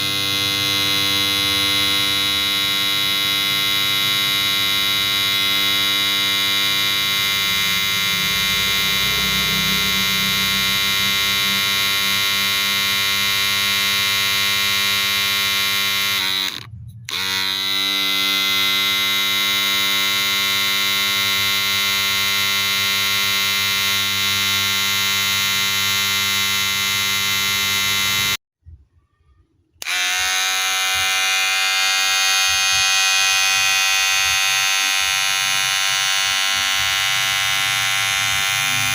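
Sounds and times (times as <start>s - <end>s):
electric hair clipper buzzing: 0.0s - 28.4s, 29.8s - 38.9s.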